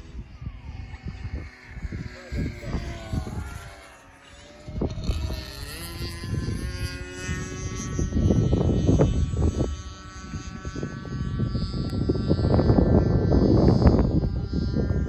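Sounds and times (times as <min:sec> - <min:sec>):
electric motor and propeller whining: 0:00.0 - 0:15.0
gusty low rumble: 0:00.0 - 0:15.0.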